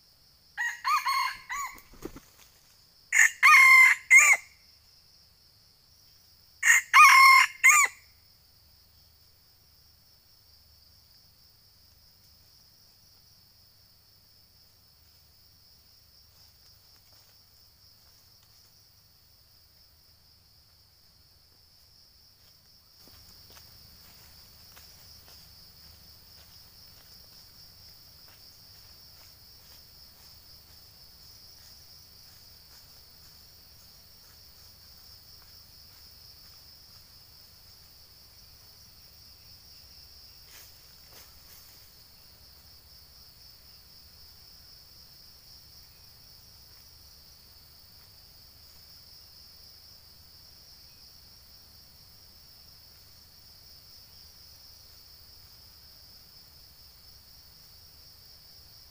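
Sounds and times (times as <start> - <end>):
high-pitched insect chorus: 0.0 - 58.9.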